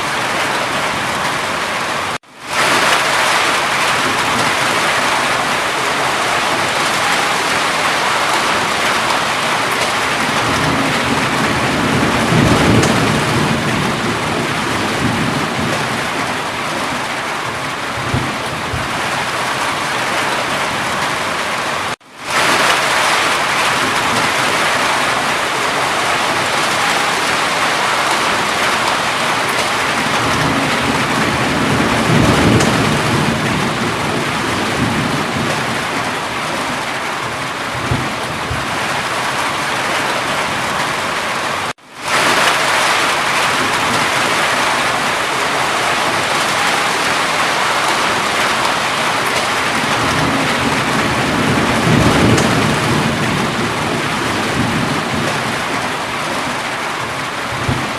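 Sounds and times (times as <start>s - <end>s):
heavy rain: 0.0s - 57.9s
thunder rumbling: 0.0s - 57.9s.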